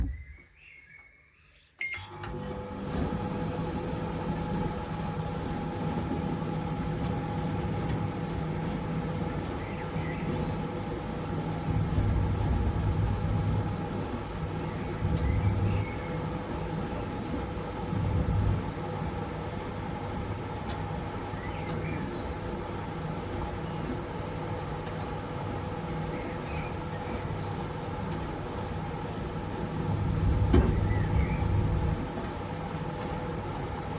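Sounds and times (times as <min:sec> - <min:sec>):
microwave oven humming: 0:01.8 - 0:33.9.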